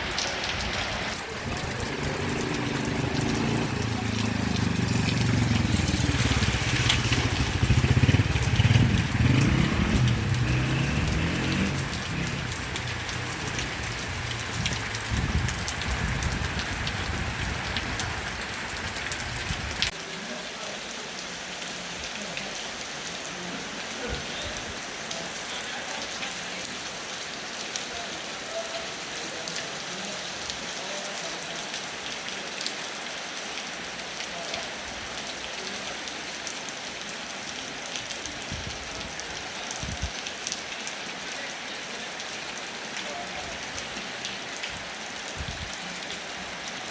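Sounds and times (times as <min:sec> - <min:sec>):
heavy rain pattering: 0:00.0 - 0:46.9.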